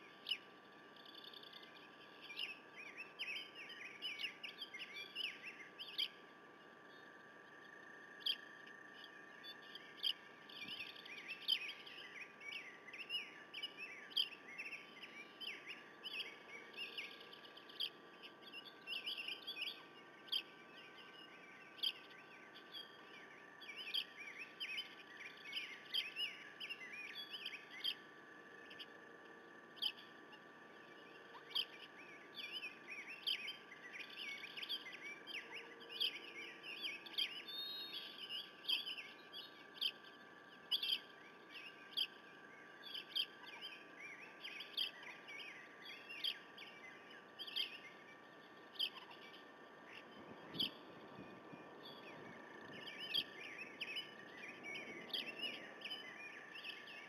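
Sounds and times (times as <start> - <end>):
faint steady hum: 0.0 - 57.0
small birds chirping: 0.0 - 57.0.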